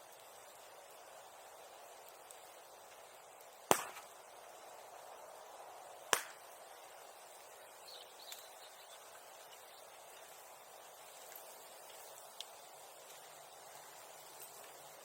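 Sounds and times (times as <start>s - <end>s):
bonfire wood popping: 0.0s - 15.0s.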